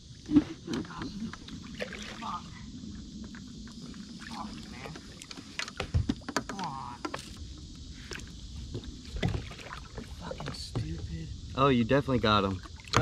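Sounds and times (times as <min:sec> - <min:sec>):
low rumble of water and wind: 0:00.0 - 0:13.0.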